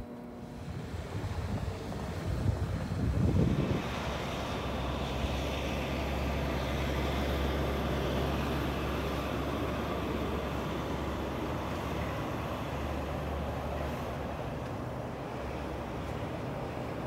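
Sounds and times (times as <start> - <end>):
large vehicle engine hum: 0.0 - 17.0
street traffic: 0.5 - 17.0.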